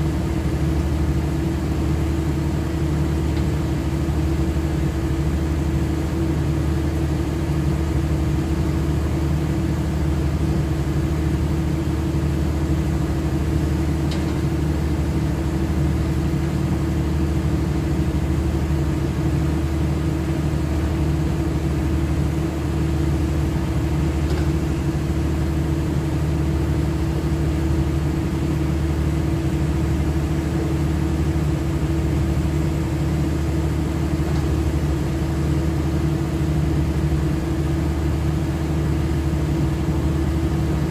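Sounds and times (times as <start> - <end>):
large engine droning: 0.0 - 40.9.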